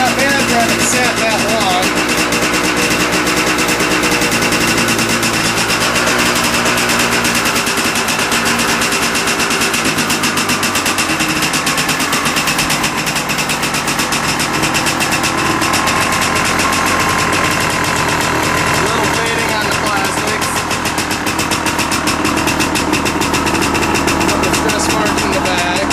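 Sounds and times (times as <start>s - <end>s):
two-stroke engine running: 0.0s - 25.9s.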